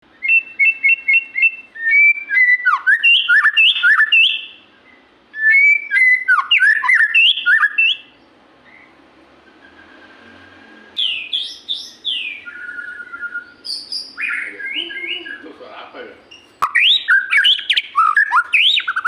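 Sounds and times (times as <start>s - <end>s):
songbird whistling song: 0.0s - 19.0s.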